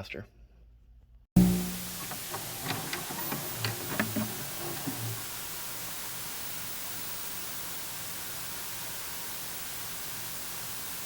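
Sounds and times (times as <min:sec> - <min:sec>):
static hiss: 0:01.4 - 0:11.0.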